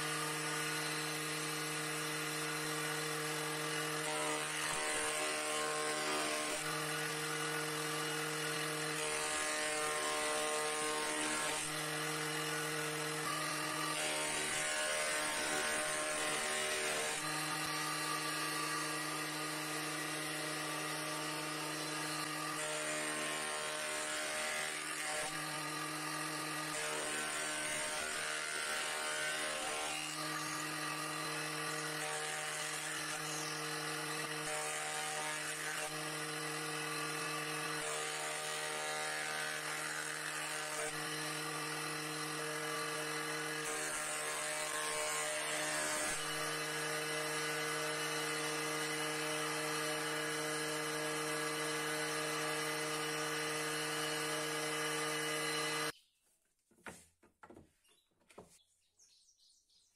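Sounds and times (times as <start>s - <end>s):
bench jointer humming: 0.0s - 55.9s.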